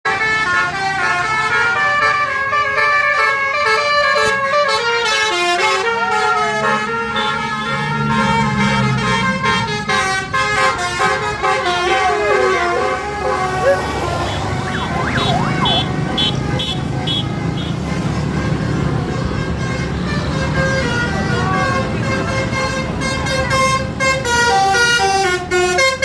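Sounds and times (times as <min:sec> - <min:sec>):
bus horn playing a tune: 0:00.1 - 0:26.0.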